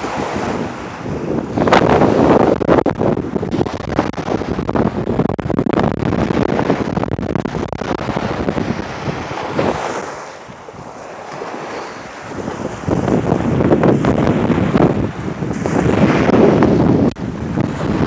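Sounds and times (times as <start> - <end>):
small waves washing ashore: 0.0 - 18.0
wind buffeting microphone: 0.0 - 18.0.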